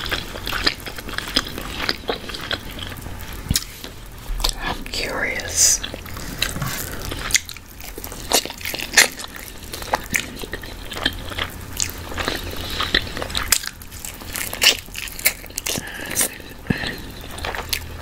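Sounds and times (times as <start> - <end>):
chewing: 0.0 - 4.8, 5.8 - 18.0.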